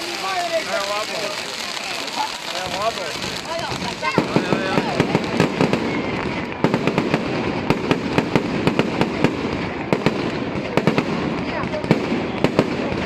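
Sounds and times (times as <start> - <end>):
fireworks cracks and bangs: 0.0 - 13.0.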